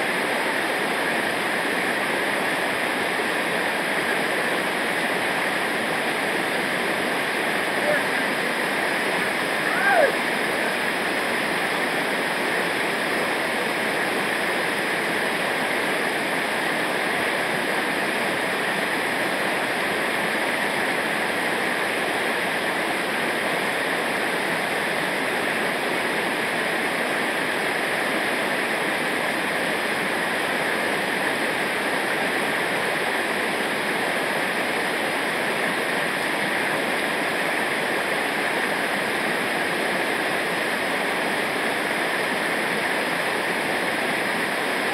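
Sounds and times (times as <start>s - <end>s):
rushing river water: 0.0s - 44.9s.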